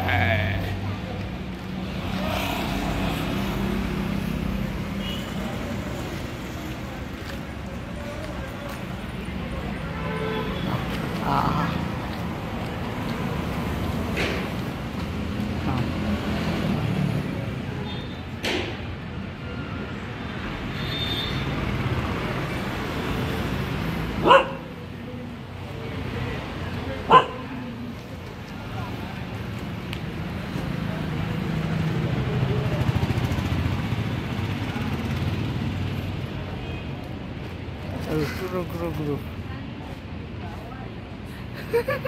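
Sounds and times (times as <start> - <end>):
street noise haze: 0.0 - 42.0.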